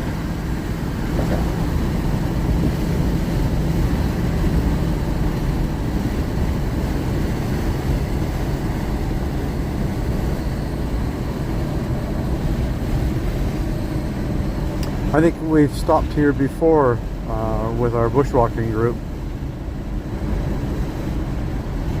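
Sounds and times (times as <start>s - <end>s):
vehicle road and engine noise: 0.0s - 22.0s.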